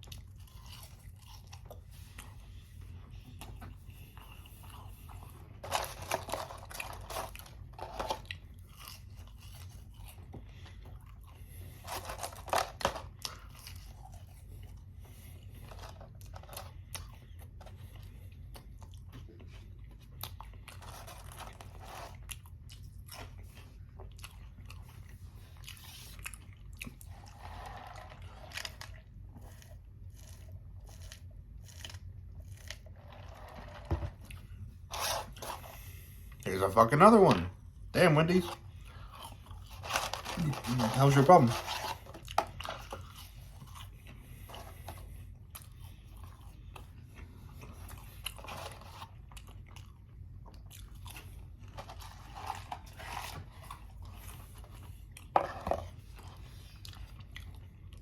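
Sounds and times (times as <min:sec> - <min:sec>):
chewing crunchy fries: 0:00.0 - 0:58.0.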